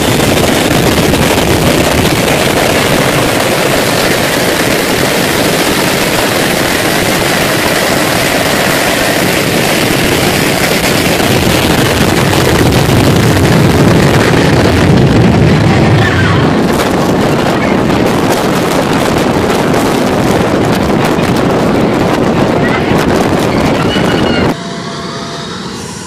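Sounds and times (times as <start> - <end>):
jet engines at takeoff thrust: 0.0 - 26.0.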